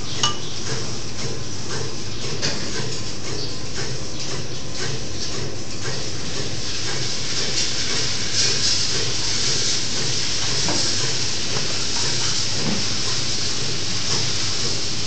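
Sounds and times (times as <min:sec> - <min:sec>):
low machine hum: 0:00.0 - 0:15.0
milking machine hissing: 0:00.0 - 0:15.0.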